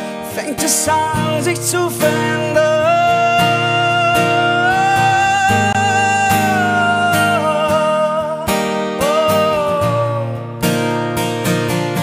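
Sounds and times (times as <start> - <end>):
strummed acoustic guitar: 0.0 - 12.0
man singing long notes: 0.3 - 10.5.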